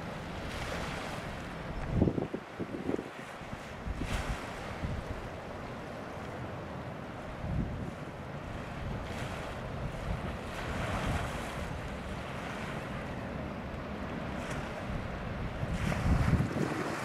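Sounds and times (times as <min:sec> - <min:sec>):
wind rumbling on microphone: 0:00.0 - 0:05.4, 0:07.3 - 0:13.2, 0:13.9 - 0:17.0
waves breaking surf rush: 0:00.0 - 0:17.0.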